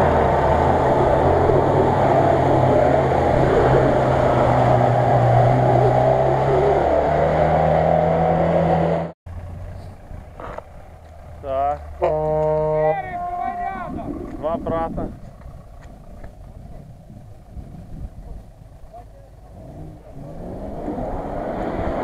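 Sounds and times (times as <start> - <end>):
off-road engine under load: 0.0 - 22.0.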